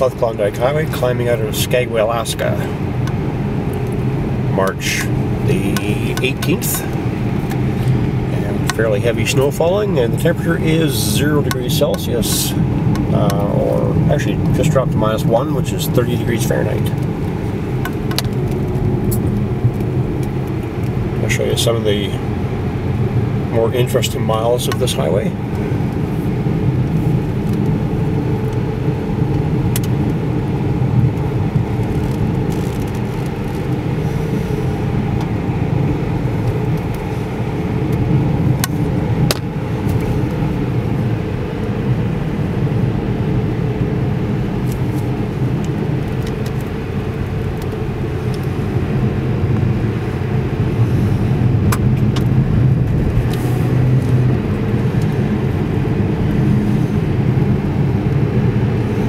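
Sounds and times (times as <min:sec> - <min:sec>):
engine and tyre drone: 0:00.0 - 0:59.0.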